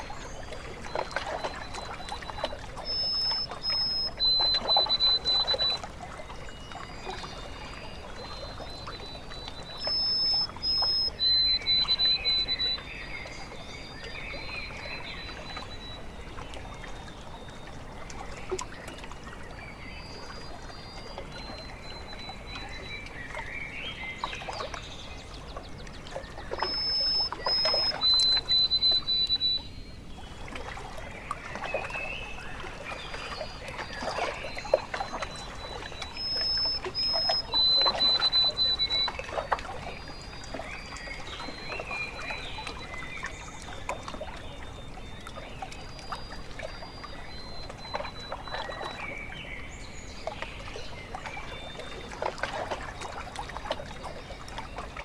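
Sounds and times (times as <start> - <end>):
birds singing: 0.0 - 55.0
water lapping against a shore: 0.0 - 55.0.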